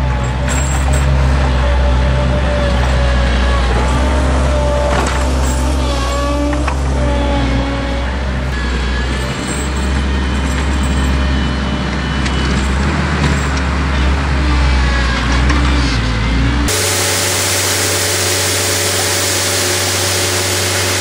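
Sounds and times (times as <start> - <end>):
loader engine running: 0.0 - 21.0.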